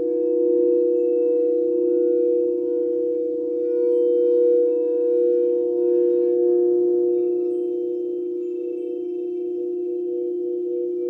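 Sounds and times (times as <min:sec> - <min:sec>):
singing bowls ringing: 0:00.0 - 0:11.0.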